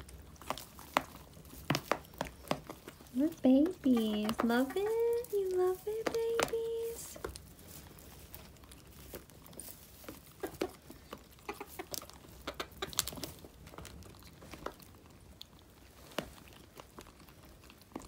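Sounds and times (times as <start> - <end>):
hens pecking feed from plastic tub: 0.0 - 18.0.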